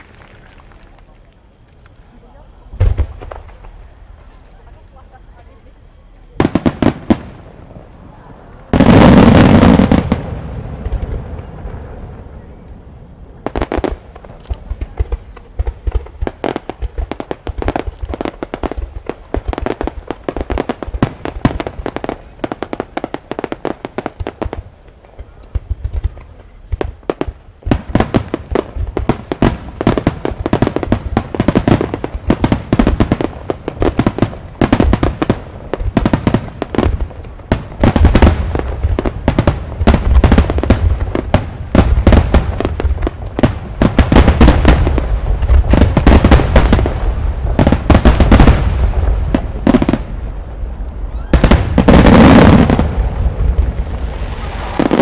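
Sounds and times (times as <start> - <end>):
fireworks barrage bangs: 2.7 - 5.2, 6.3 - 12.6, 13.2 - 55.0.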